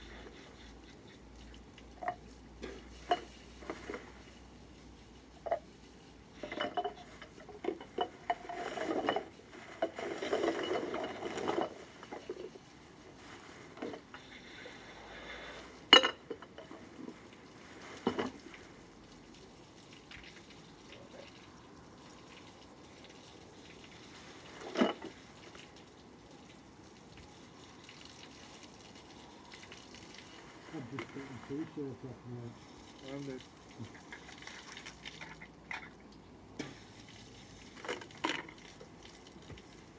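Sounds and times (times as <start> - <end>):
water splashing from hose: 0.0 - 39.9.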